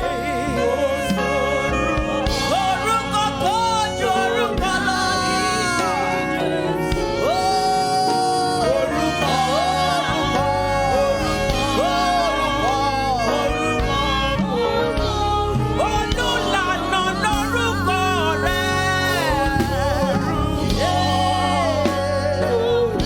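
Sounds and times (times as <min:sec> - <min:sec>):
gospel worship song: 0:00.0 - 0:23.0.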